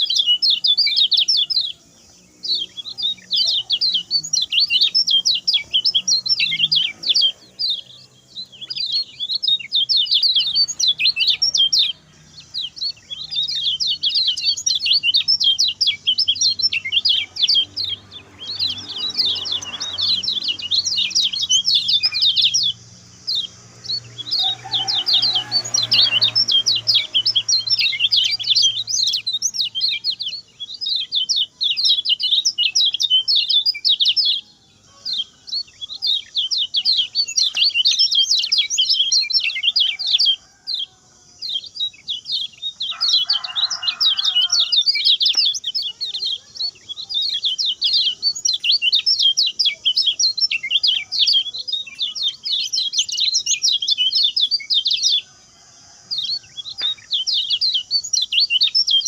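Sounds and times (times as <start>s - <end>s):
songbird singing rapid chirps: 0.0s - 59.0s.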